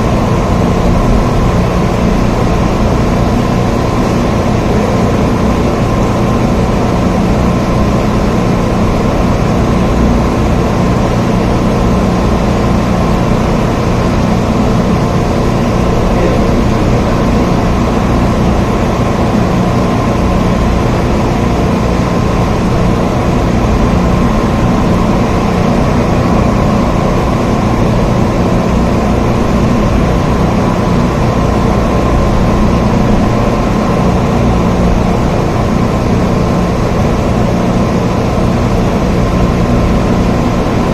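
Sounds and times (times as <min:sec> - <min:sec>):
deep constant rumble: 0:00.0 - 0:40.9
heavy rain: 0:00.0 - 0:40.9.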